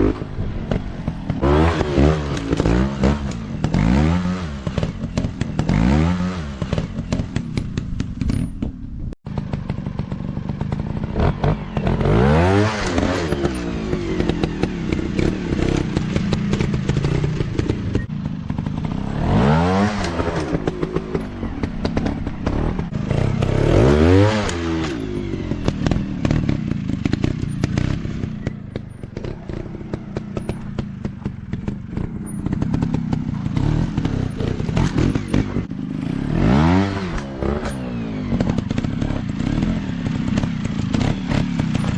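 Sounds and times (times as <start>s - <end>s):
dirt bike engine revving: 0.0s - 8.6s, 9.3s - 41.9s.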